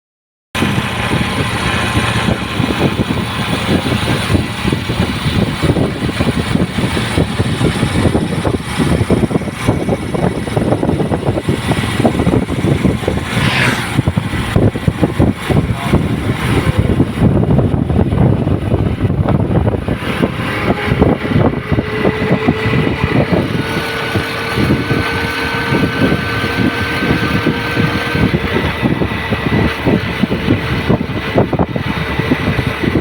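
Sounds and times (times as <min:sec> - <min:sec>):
falling whine: 0:00.6 - 0:33.0
motorcycle engine throbbing: 0:00.6 - 0:33.0.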